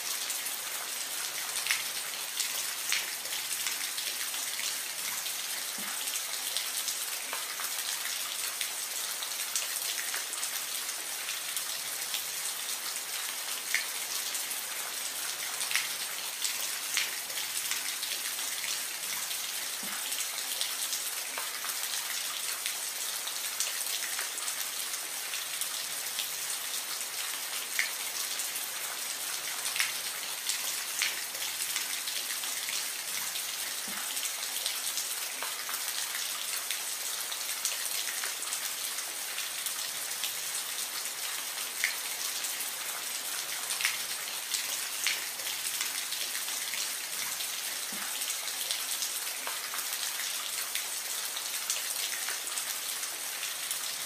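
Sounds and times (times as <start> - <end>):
soft rain hiss: 0.0 - 54.0.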